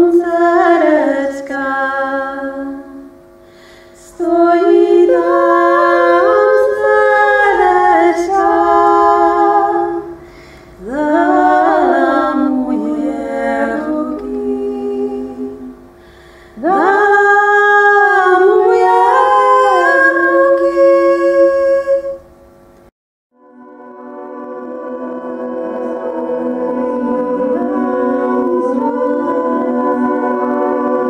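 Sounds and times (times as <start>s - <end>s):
woman singing a cappella harmony: 0.0s - 22.3s, 24.5s - 31.0s.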